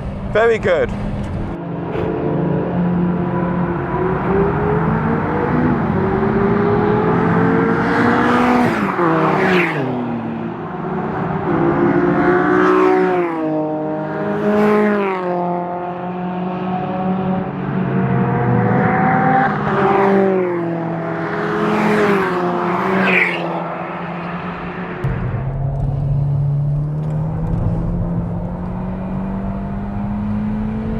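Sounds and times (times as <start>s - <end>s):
car engine accelerating hard: 0.0s - 23.1s, 23.7s - 30.9s.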